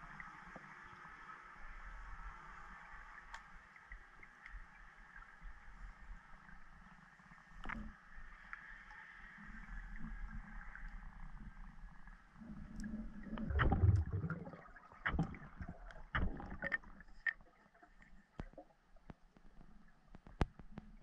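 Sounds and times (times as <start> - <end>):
low underwater hum: 0.0 - 21.0.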